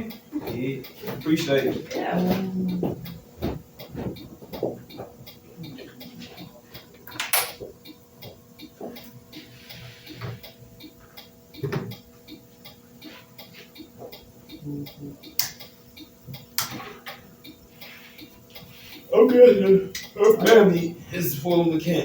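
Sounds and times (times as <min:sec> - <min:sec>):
flasher relay ticking: 0:00.0 - 0:22.0.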